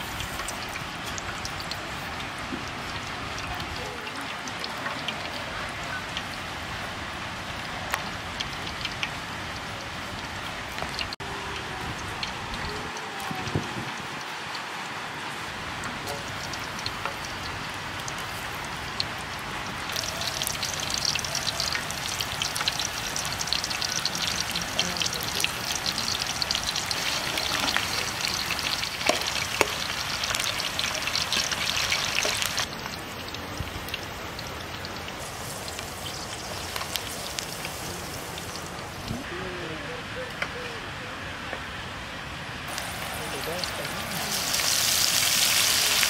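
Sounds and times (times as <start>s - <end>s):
onions frying in hot oil: 0.0s - 39.5s, 42.7s - 46.0s.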